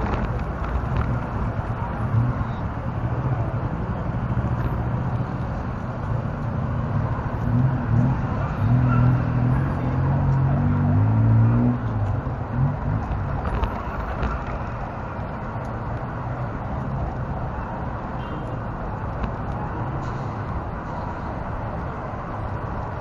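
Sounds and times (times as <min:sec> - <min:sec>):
road traffic rumble: 0:00.0 - 0:23.0
vehicle engine running close: 0:00.0 - 0:23.0.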